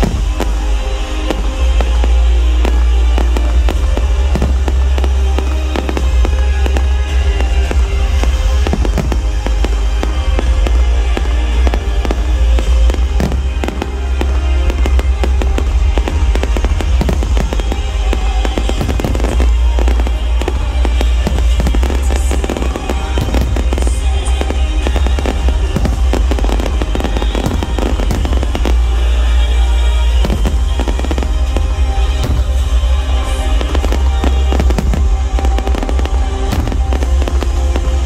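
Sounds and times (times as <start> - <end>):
fireworks bursting and crackling: 0.0 - 38.0
loud music with heavy bass: 0.0 - 38.0.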